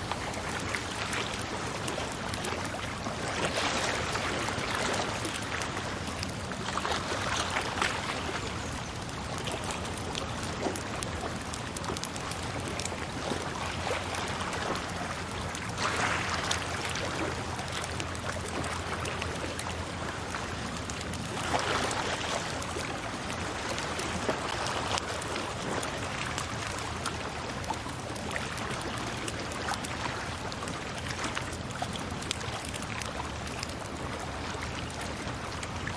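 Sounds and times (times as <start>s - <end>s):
water flowing and splashing: 0.0s - 35.9s.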